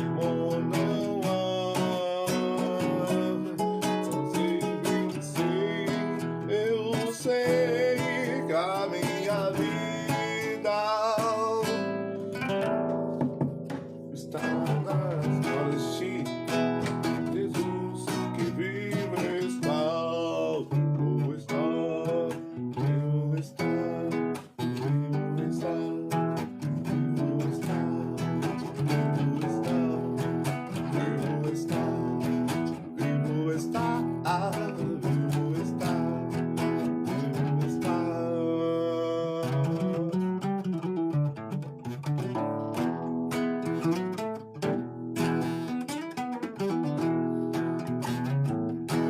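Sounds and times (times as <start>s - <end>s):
acoustic guitar: 0.0s - 49.0s.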